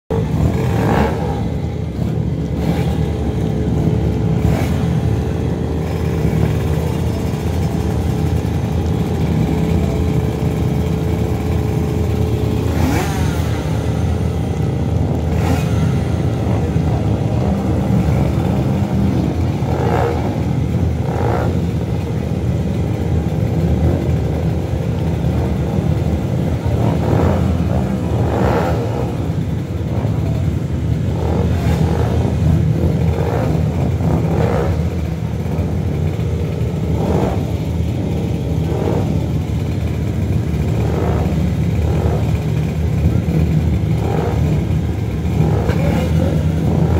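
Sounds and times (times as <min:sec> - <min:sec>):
motorcycle throttle revs: 0:00.1 - 0:46.9
motorcycles idling: 0:00.1 - 0:46.9.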